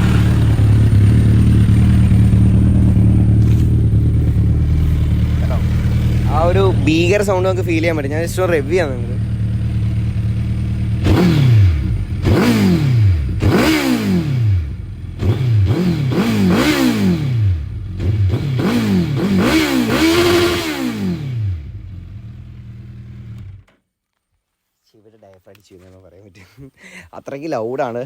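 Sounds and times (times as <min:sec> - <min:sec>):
motorcycle engine revving: 0:00.0 - 0:23.7.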